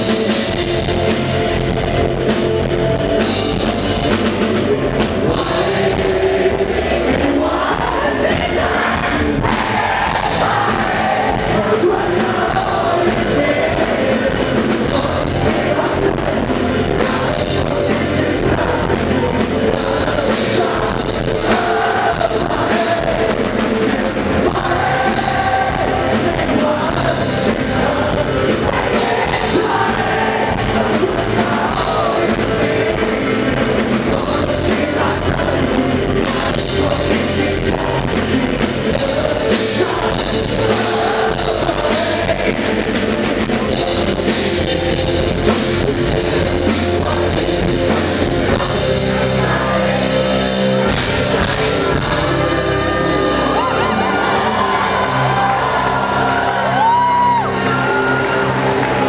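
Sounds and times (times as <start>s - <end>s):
man singing: 0.0s - 55.3s
drum kit: 0.0s - 59.0s
electric guitars: 0.0s - 59.0s.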